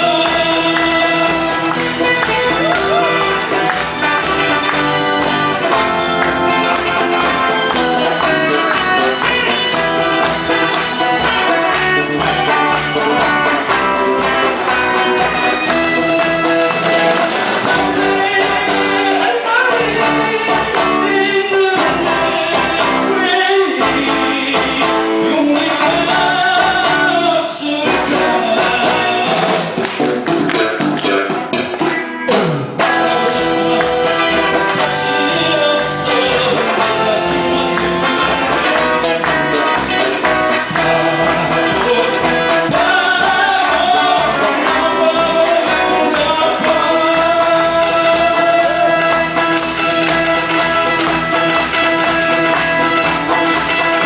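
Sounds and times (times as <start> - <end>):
person singing: 0.0 - 31.3, 31.9 - 54.0
guitars: 0.0 - 54.0
steady drum beat: 0.0 - 54.0.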